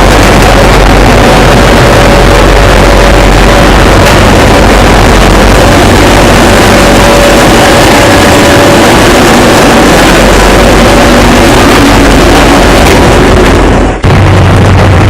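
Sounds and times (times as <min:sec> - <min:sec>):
ship engine and machinery drone: 0:00.0 - 0:15.0.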